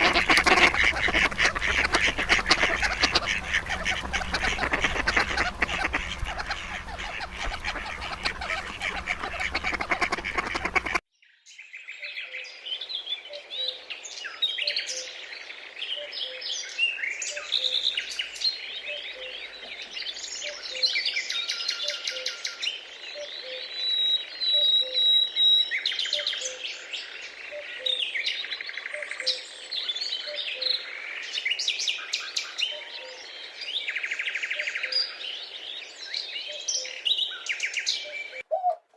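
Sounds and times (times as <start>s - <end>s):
birds chirping and trilling: 0.0s - 38.5s
dense din of bird calls: 0.0s - 38.5s.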